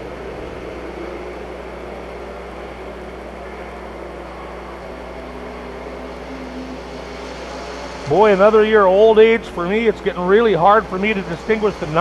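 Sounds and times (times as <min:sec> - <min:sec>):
muffled race cars drone: 0:00.0 - 0:12.0.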